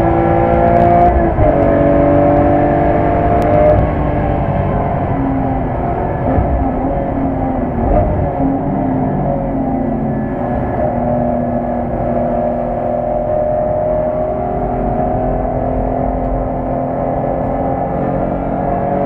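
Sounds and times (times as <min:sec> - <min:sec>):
car engine revving in cabin: 0:00.0 - 0:19.0.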